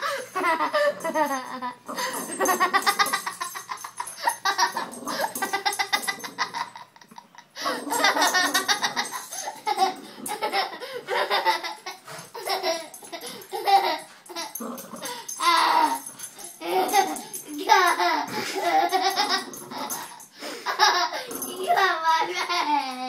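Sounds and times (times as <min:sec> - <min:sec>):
child laughing: 0:00.0 - 0:23.0.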